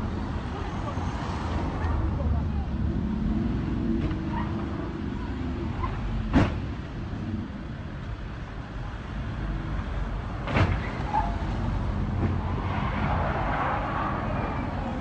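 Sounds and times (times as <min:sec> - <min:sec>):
moving car road rumble: 0:00.0 - 0:15.0.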